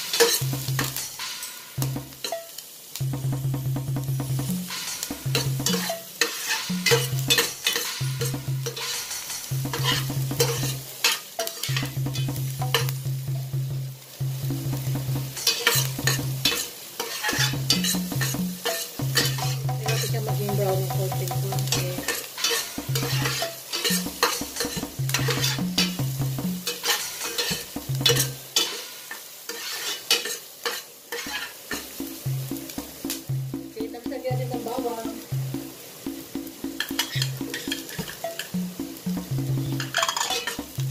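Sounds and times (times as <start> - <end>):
metal ladle scraping a pan: 0.0 - 2.6, 4.4 - 13.0, 15.2 - 33.5, 35.4 - 40.9
onions sizzling in oil: 0.0 - 40.9.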